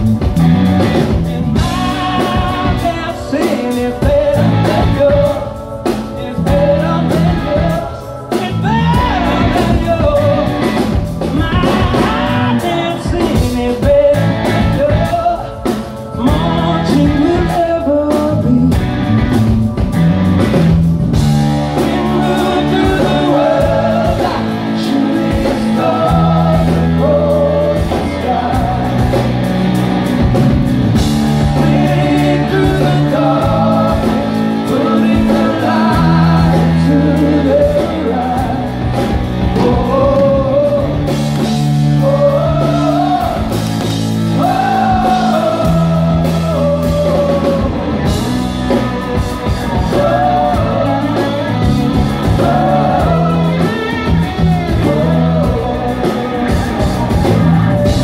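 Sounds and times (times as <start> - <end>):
bass guitar: 0.0 - 58.0
drums: 0.0 - 58.0
electric guitar: 0.0 - 58.0
person singing: 0.9 - 19.2, 21.2 - 58.0.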